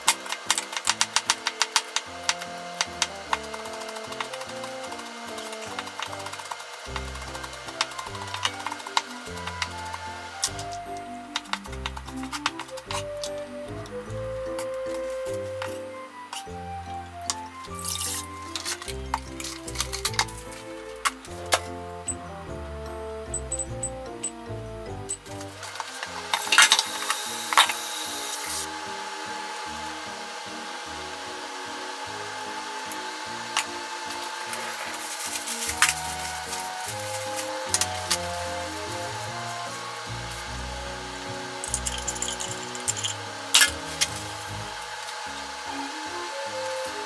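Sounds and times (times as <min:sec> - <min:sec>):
mechanical whir with hum: 0:00.0 - 0:20.6, 0:21.3 - 0:47.0
background music: 0:00.0 - 0:47.0.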